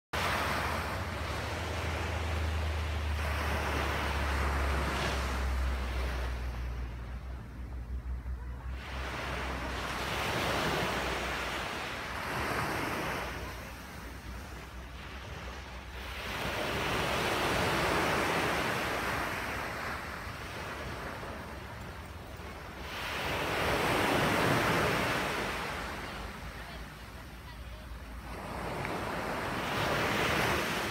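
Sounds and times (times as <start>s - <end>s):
breaking waves: 0.2s - 30.9s
deep rumble of surf: 0.2s - 30.9s.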